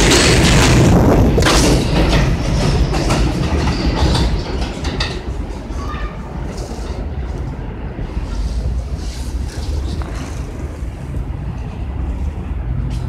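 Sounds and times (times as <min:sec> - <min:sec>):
subway train rumbling: 0:00.0 - 0:13.0
wheels clicking over rail joints: 0:00.0 - 0:13.0.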